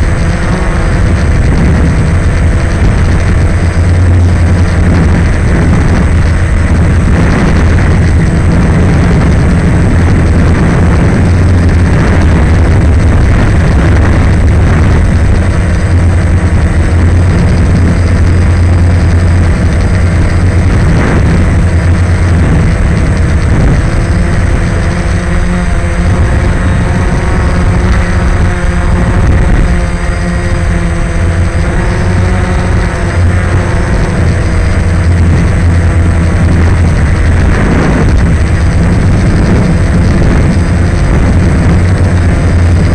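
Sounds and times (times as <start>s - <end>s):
drone propellers droning: 0.0s - 42.9s
wind on microphone: 0.0s - 42.9s.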